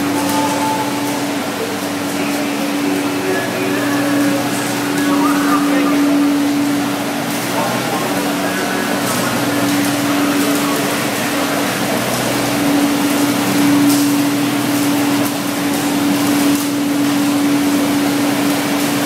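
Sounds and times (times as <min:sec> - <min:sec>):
mill machinery running: 0:00.0 - 0:19.0.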